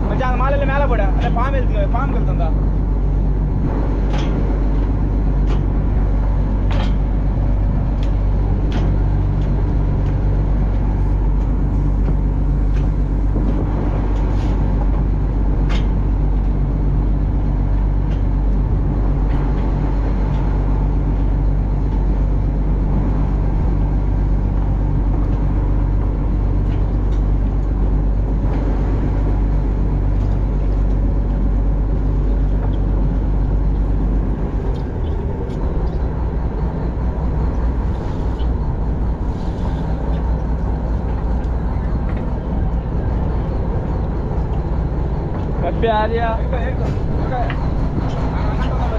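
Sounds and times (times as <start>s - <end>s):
engine droning: 0.0s - 48.9s.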